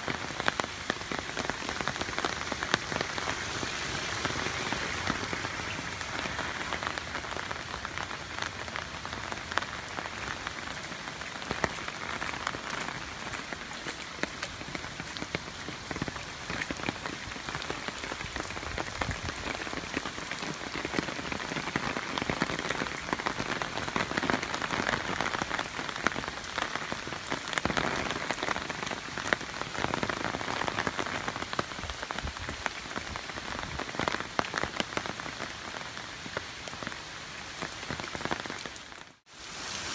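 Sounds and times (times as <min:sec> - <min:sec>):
rain splashing on wet pavement: 0:00.0 - 0:39.9.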